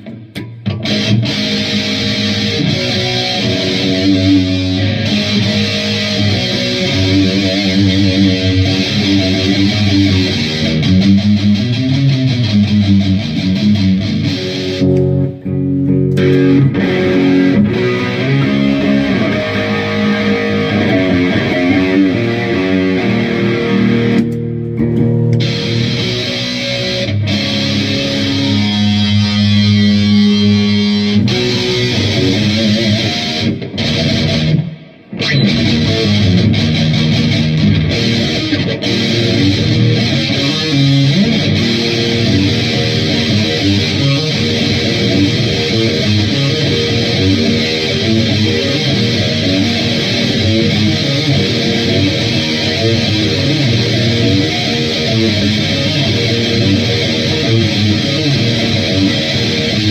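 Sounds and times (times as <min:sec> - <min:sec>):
distorted electric guitar riffs: 0:00.0 - 0:59.9.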